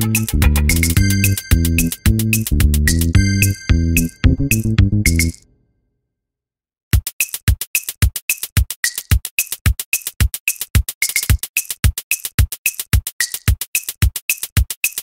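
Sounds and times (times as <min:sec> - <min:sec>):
electronic drum machine beat: 0:00.0 - 0:05.4, 0:06.9 - 0:15.0.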